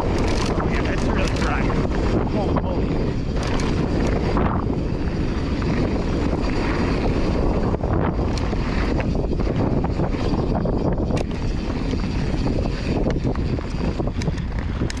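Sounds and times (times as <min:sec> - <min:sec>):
bike tyres on dirt: 0:00.0 - 0:15.0
wind on microphone: 0:00.0 - 0:15.0.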